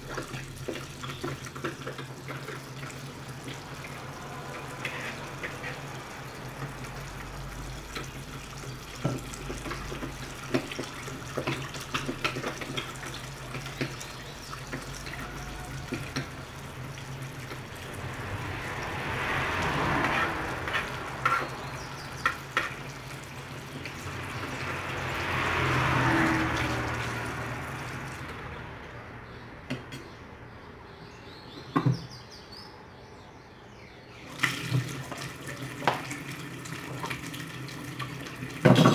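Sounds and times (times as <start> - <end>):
tap water running into sink: 0.0 - 18.1, 19.6 - 28.4, 34.3 - 38.9.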